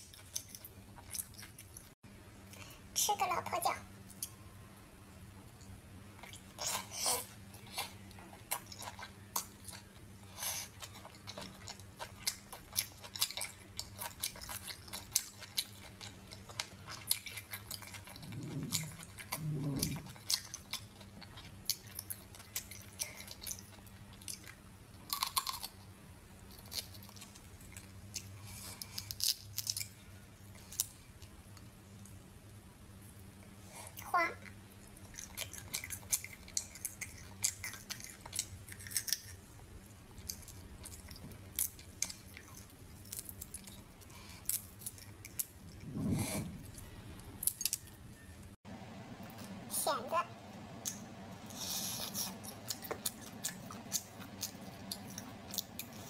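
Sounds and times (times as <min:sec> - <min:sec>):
chewing food: 0:00.0 - 0:02.6, 0:05.4 - 0:32.2, 0:33.8 - 0:48.5, 0:50.8 - 0:56.0
faint low hum: 0:00.0 - 0:56.0.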